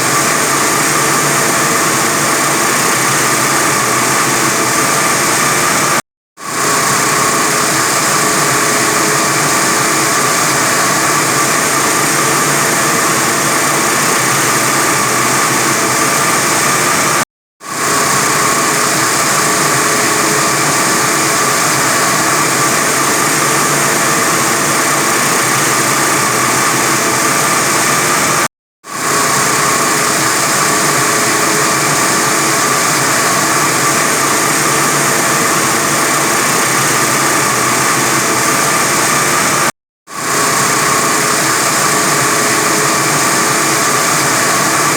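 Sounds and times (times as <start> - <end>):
wire saw cutting concrete: 0.0 - 44.9.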